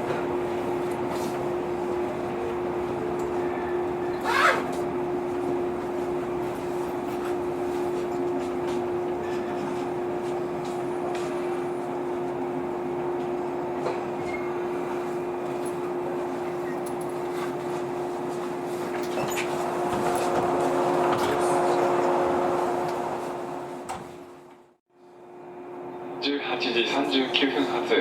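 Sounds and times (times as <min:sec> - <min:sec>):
train equipment hum: 0:00.0 - 0:28.0.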